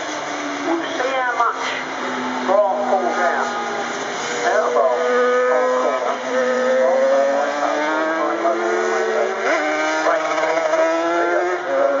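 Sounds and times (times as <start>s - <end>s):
racing motorcycle engines accelerating: 0.0s - 12.0s.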